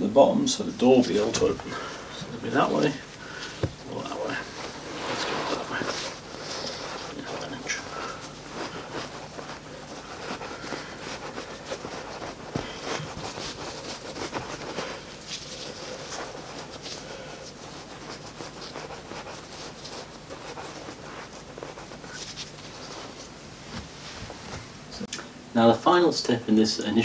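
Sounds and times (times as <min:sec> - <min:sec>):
rustling and scratching of fibre wool: 0:00.8 - 0:24.7.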